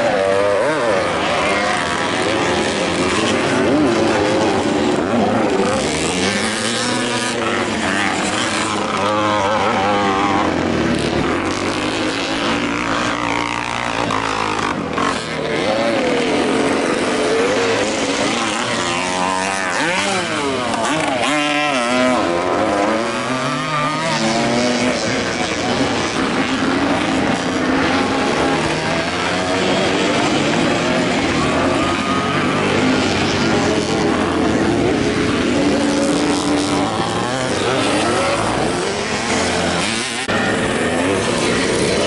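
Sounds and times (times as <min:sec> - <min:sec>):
motorcycle engines racing: 0:00.0 - 0:42.0.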